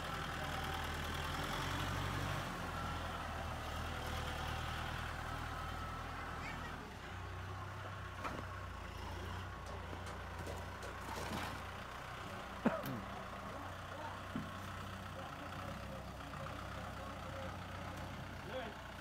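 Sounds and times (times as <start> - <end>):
tractor diesel engine: 0.0 - 19.0.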